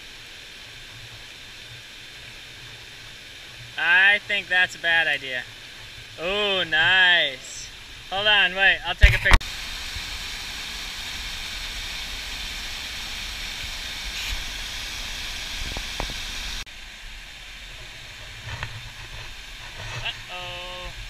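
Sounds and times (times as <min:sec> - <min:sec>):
rushing whitewater: 0:00.0 - 0:21.0.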